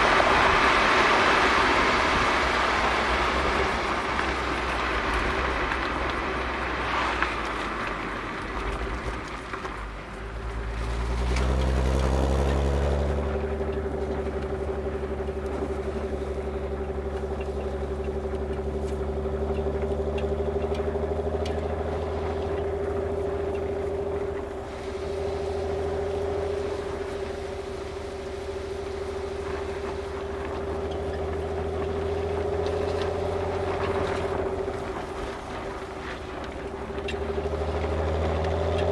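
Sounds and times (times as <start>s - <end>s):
car exhaust drone: 0.0s - 38.9s
road and tyre noise: 0.0s - 38.9s.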